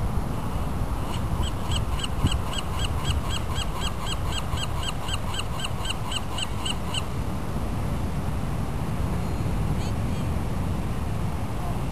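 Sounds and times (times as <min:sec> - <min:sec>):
surf on beach: 0:00.0 - 0:11.9
wind: 0:00.0 - 0:11.9.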